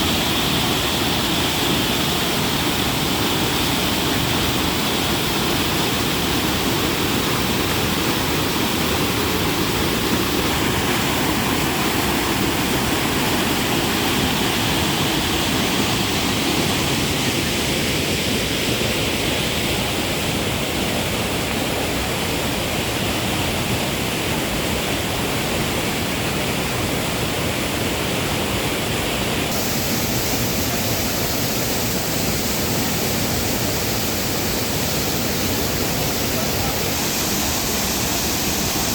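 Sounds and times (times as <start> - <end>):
water rushing over waterfall: 0.0 - 38.9.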